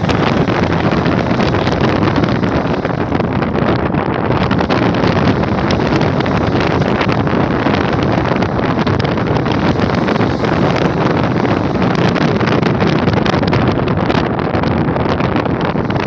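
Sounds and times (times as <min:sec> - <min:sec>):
car tyres spinning on gravel: 0:00.0 - 0:16.0
wind buffeting microphone: 0:00.0 - 0:16.0.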